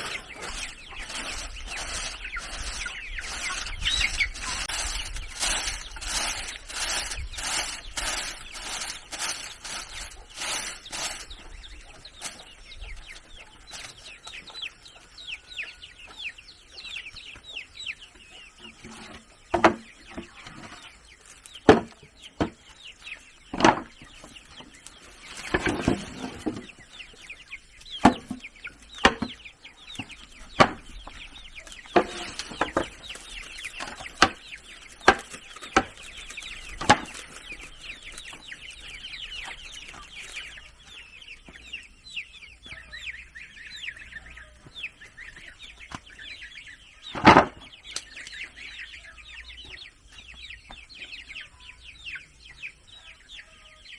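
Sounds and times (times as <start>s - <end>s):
chickens clucking: 0.0s - 53.9s.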